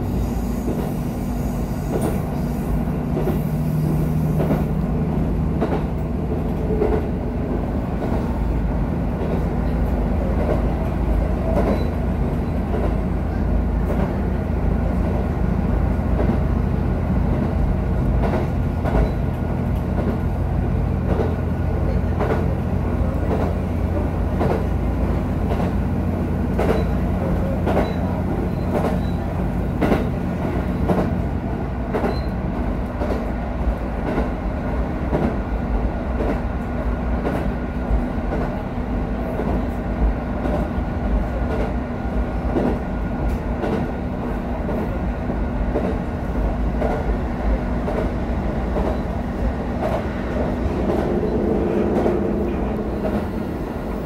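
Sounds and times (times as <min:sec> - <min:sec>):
railcar engine drone: 0:00.0 - 0:54.0.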